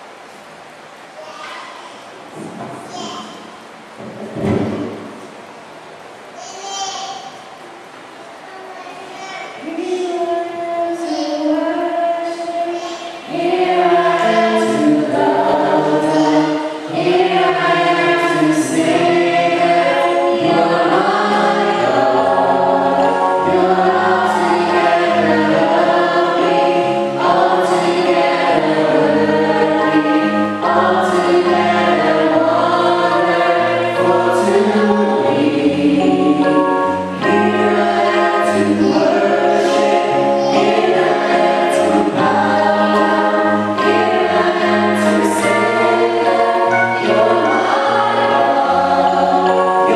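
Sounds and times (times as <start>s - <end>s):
choir singing a hymn: 9.6s - 49.9s.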